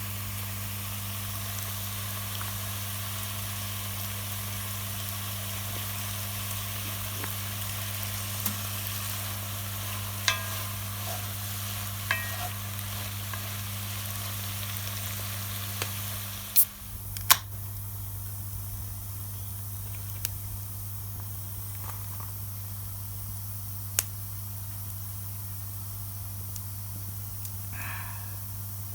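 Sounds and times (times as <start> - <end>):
wood fire hissing and crackling: 0.0 - 28.9
steady low hum: 4.6 - 28.9.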